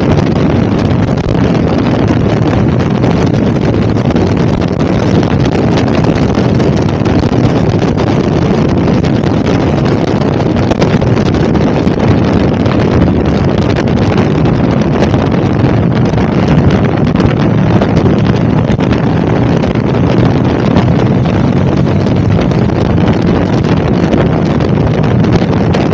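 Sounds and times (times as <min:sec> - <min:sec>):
motorcycle engine running: 0:00.0 - 0:25.9
wind buffeting microphone: 0:00.0 - 0:25.9.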